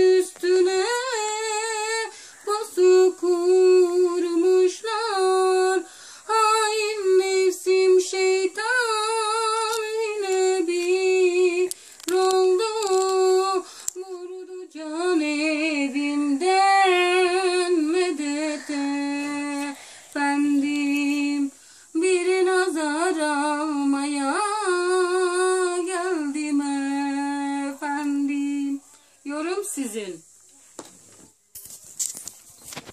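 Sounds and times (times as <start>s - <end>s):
woman singing unaccompanied: 0.0s - 30.3s.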